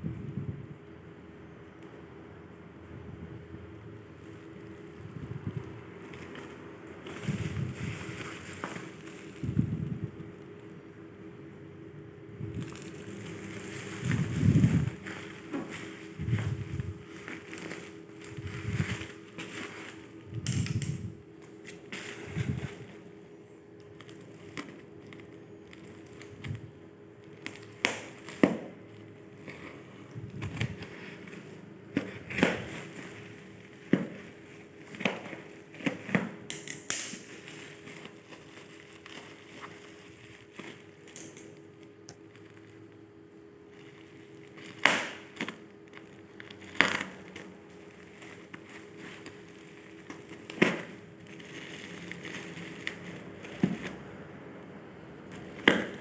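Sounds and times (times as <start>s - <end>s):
faint steady hum: 0.0s - 56.0s
packaging rustling and crinkling: 4.0s - 56.0s.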